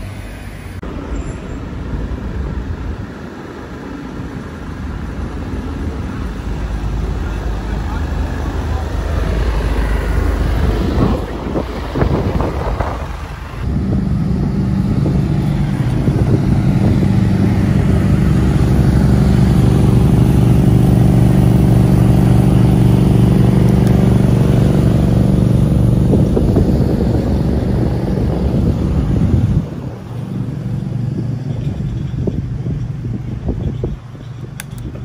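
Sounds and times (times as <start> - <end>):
wind buffeting microphone: 0.0 - 35.0
motor engine running: 2.0 - 35.0.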